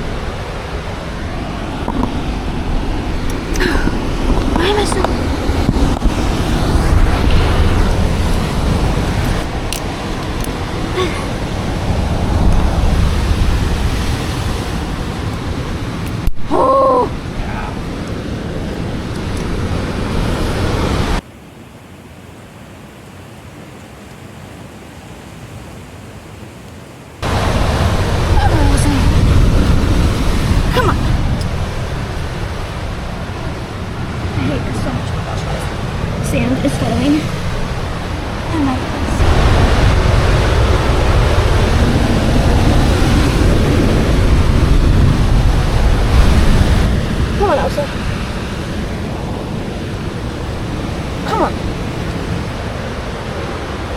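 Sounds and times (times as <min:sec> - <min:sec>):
wind and surf rushing: 0:00.0 - 0:53.9.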